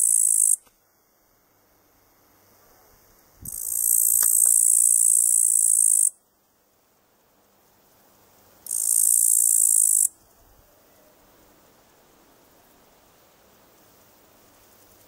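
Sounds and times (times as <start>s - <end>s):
grasshopper stridulating buzz: 0.0s - 15.0s.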